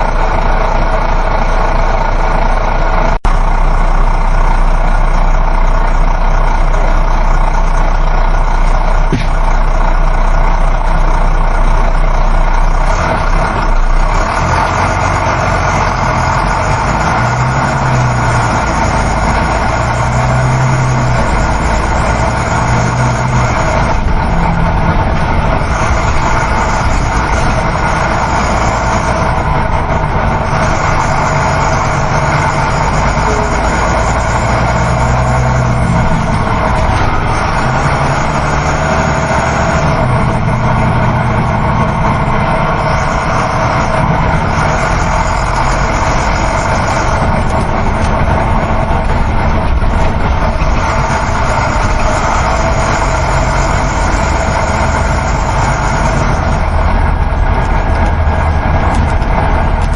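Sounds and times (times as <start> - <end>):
bus engine drone: 0.0 - 59.9
road and wind noise: 0.0 - 59.9.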